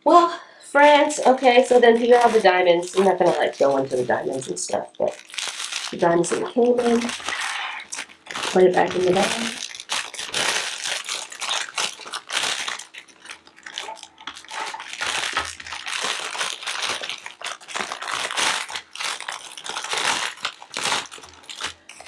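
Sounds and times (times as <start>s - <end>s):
plastic bags crinkling: 0.9s - 22.0s.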